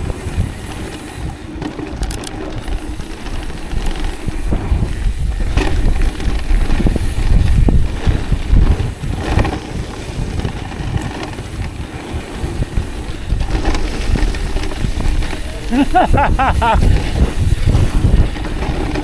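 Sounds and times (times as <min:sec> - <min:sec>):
bike rattling and knocking: 0:00.0 - 0:19.0
tyres rumbling over dirt: 0:00.0 - 0:19.0
wind buffeting microphone: 0:00.0 - 0:19.0.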